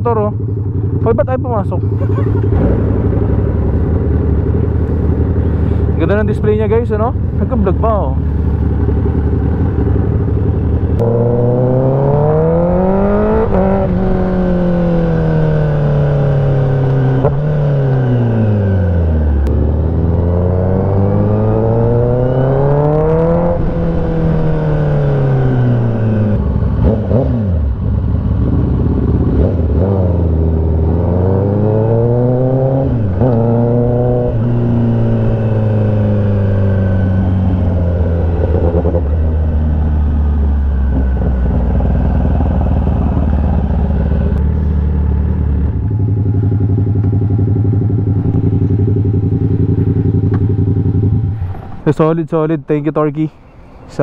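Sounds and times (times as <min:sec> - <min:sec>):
motorcycle engine revving: 0:00.0 - 0:52.2.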